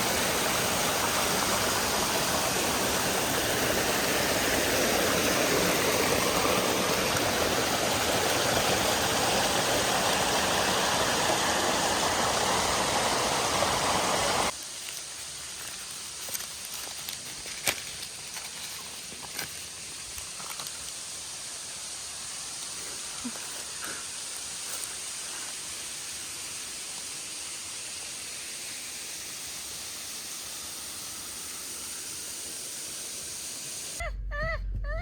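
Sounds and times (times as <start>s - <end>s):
steady hiss: 0.0s - 34.0s.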